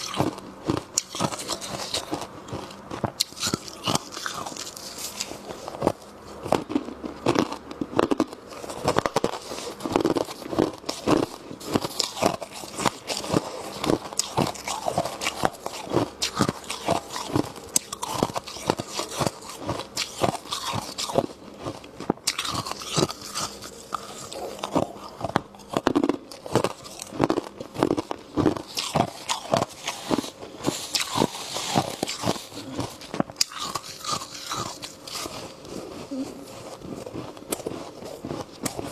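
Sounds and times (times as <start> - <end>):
crunching of frost and ice: 0.0 - 38.9.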